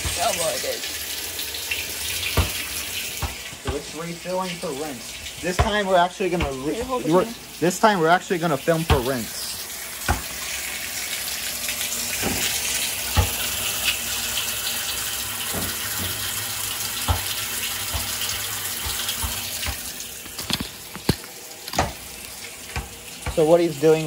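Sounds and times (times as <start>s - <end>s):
water pouring into washing machine: 0.0s - 24.0s.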